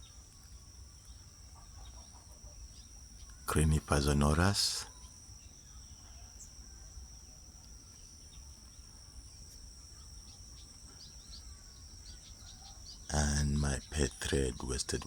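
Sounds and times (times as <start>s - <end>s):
faint bird chirps: 0.0s - 15.0s
high-pitched insect trill: 0.0s - 15.0s.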